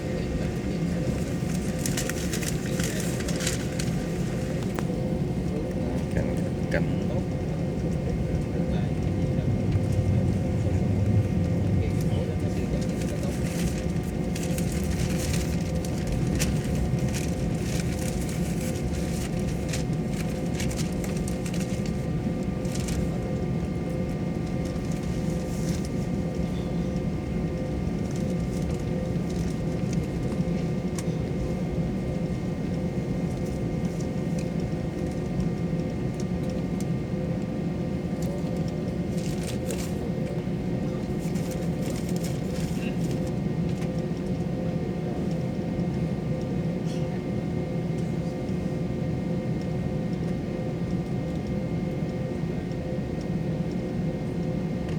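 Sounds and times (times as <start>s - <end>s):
airliner engine rumble: 0.0s - 54.9s.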